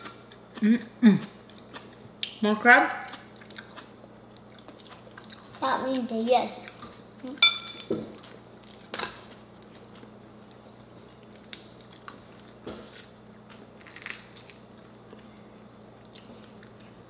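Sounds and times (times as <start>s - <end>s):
low steady hum: 0.0s - 17.0s
chewing: 0.3s - 2.4s, 3.0s - 7.0s, 8.1s - 17.0s.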